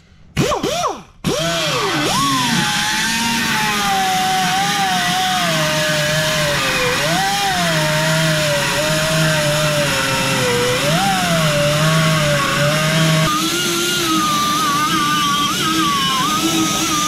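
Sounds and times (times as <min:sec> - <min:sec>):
die grinder grinding metal: 0:00.4 - 0:17.0.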